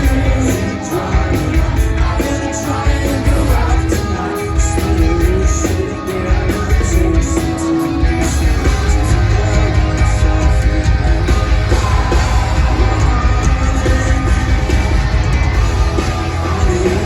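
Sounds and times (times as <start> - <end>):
live rock band playing: 0.0 - 17.0
vocalist singing or yelling: 0.0 - 17.0.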